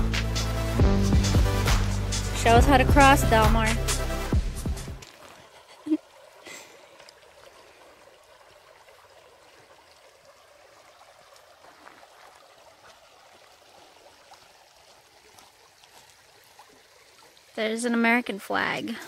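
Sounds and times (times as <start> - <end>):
creek trickling over stones: 2.2 - 19.0.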